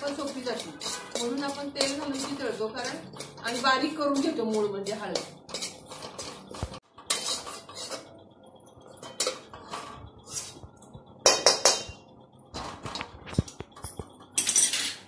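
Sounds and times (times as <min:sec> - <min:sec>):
stirring in hot oil: 0:00.0 - 0:14.2
metal spoon scraping metal pan: 0:00.0 - 0:15.0.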